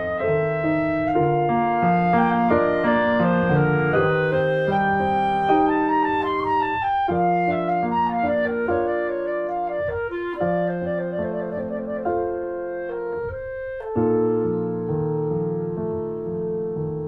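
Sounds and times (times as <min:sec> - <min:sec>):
instrumental music held notes: 0:00.0 - 0:17.0.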